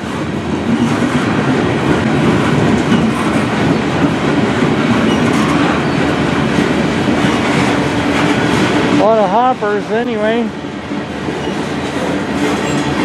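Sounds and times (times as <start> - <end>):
freight train cars rolling past: 0.0 - 13.0.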